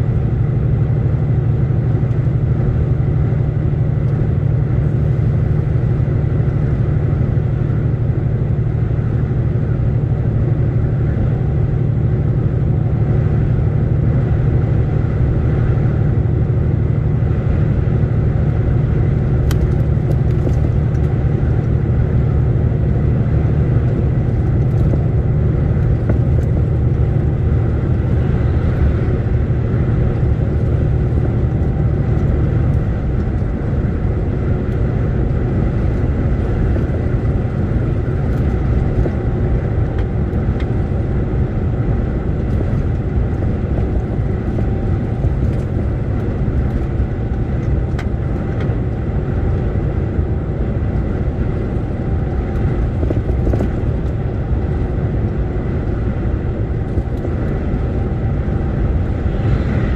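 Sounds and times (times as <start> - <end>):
truck engine and tyres droning: 0.0 - 59.9.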